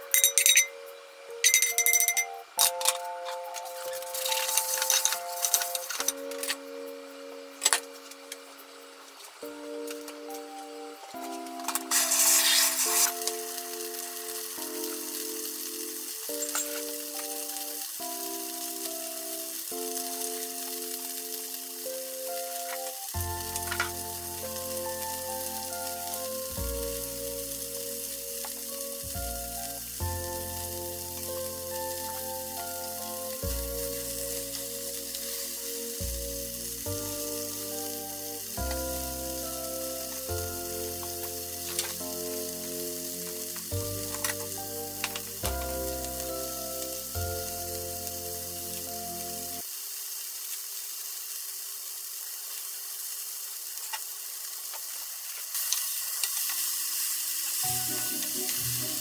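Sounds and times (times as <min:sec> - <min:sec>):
light background music: 0:00.0 - 0:49.6, 0:57.6 - 0:59.0
meat sizzling in a frying pan: 0:02.8 - 0:07.8, 0:11.4 - 0:59.0.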